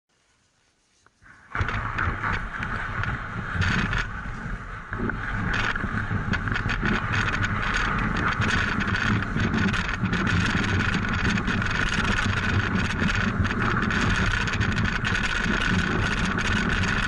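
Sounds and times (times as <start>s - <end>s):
sled rumbling and rattling: 1.2s - 17.0s.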